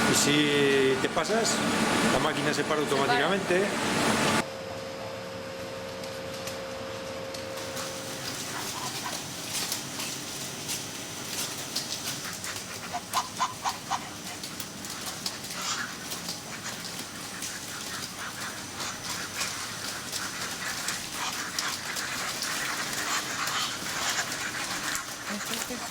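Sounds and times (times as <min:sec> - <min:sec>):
ducks calling: 0:00.0 - 0:04.4, 0:07.6 - 0:25.9.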